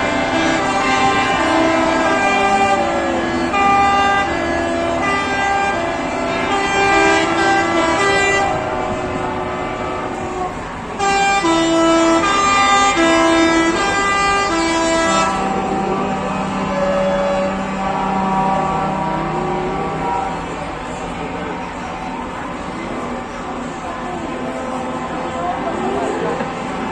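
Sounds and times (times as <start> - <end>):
truck air horns honking: 0.0 - 26.9.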